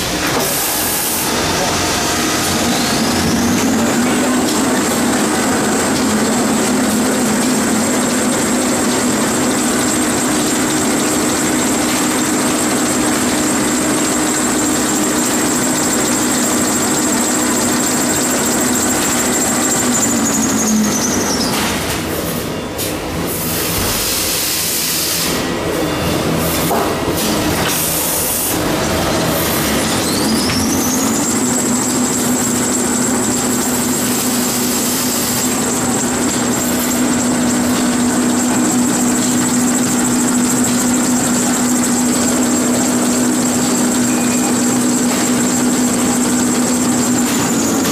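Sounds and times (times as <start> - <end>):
machine high whine over hum: 0.0 - 47.9.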